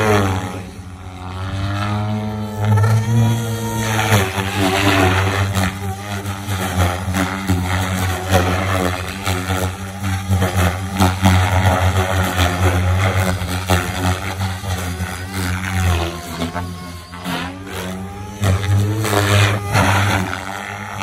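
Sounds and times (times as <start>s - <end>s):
model helicopter rotor humming: 0.0s - 21.0s.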